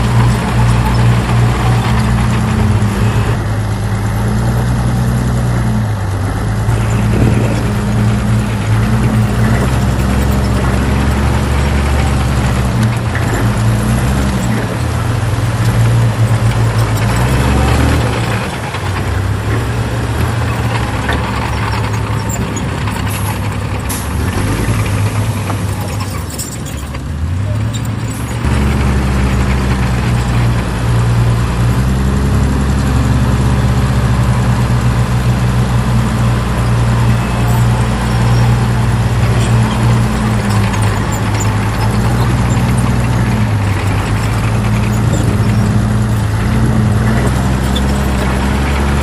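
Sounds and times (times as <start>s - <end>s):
diesel machinery engine: 0.0s - 49.0s.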